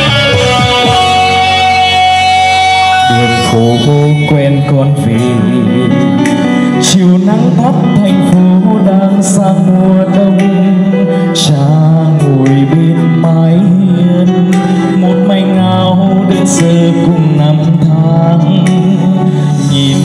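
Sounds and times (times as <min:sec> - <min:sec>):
man singing a slow ballad: 0:00.0 - 0:20.0
recorded backing track: 0:00.0 - 0:20.0.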